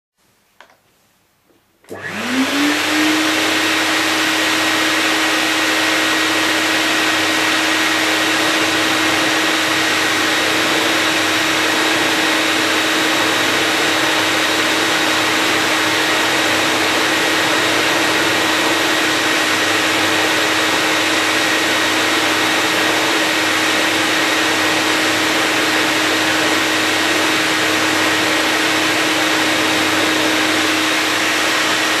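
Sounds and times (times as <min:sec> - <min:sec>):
electric motor spinning up: 0:01.9 - 0:32.0.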